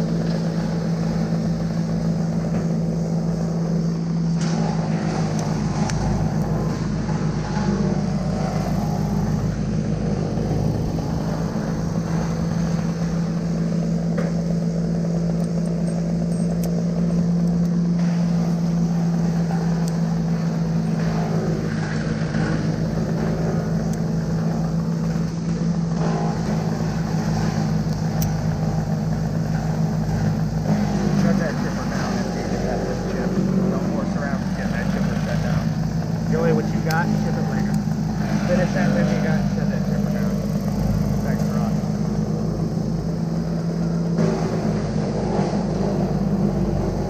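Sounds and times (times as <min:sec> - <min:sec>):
engine running steadily: 0:00.0 - 0:47.0.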